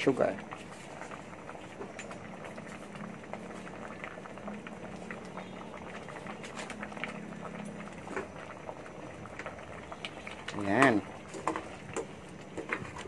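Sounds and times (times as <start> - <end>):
faint steady hum: 0.0 - 13.0
pot bubbling and popping: 0.0 - 13.0.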